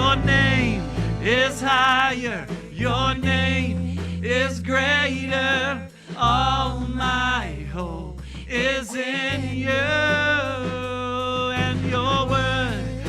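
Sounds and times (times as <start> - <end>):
guitar and bass backing: 0.0 - 13.0
voices singing worship song: 0.0 - 13.0.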